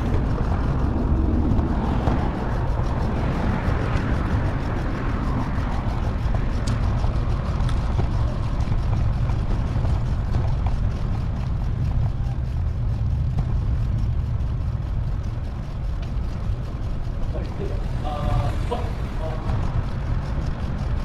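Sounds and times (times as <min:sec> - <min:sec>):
faint ticks: 0:00.0 - 0:21.0
wind and road rumble: 0:00.0 - 0:21.0.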